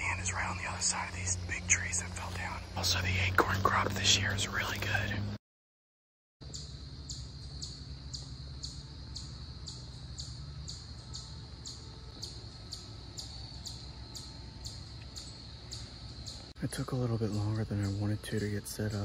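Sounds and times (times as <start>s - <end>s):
insects chirping: 0.0s - 5.3s, 6.4s - 19.0s
constant high hum: 0.0s - 5.4s, 6.4s - 19.0s.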